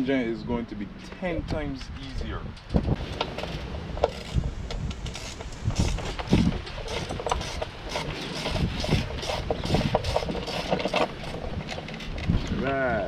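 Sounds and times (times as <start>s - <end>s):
hand tools clicking on metal: 2.0s - 12.8s.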